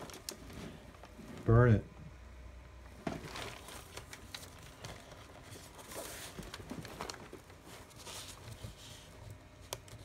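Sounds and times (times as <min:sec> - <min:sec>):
paper crackling in fire: 0:00.0 - 0:01.4, 0:03.0 - 0:10.0.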